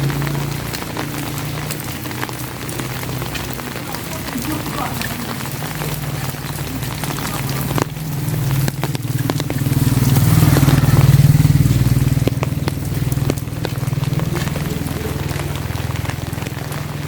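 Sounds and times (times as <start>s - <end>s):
rain on umbrella: 0.0s - 17.0s
vehicle engine droning: 0.0s - 17.0s.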